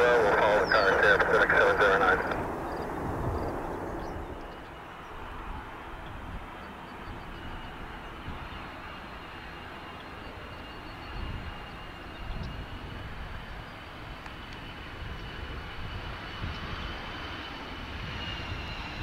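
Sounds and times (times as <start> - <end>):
jet roar with high whine: 0.0 - 19.0.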